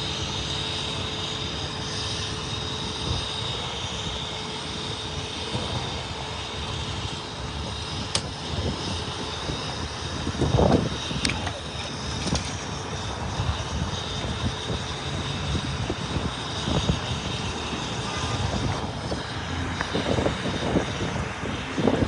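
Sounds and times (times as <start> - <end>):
faint high whine: 0.0 - 22.0
vehicle engines rumbling: 0.0 - 22.0.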